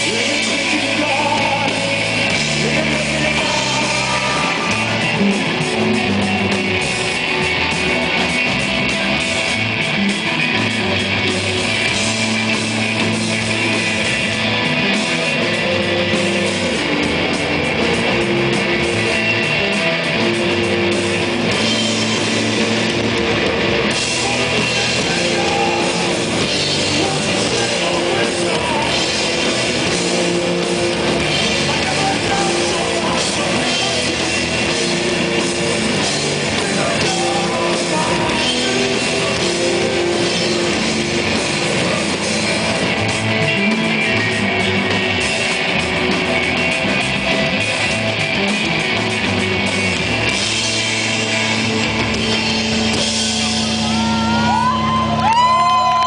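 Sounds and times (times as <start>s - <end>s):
drum kit: 0.0s - 56.0s
electric guitar: 0.0s - 56.0s
live rock band playing: 0.0s - 56.0s.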